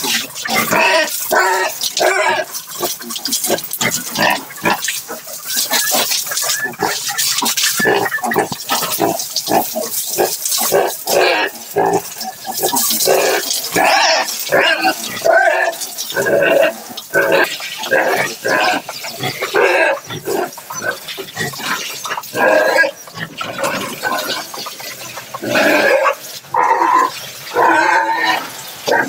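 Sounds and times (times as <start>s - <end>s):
pigs grunting: 0.0s - 29.0s.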